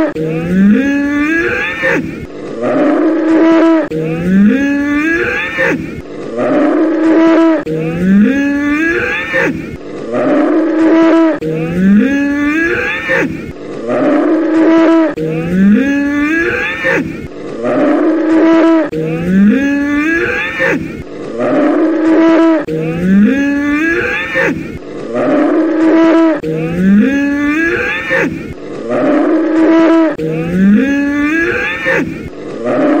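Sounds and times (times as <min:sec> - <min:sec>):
bull bellowing: 0:00.0 - 0:33.0.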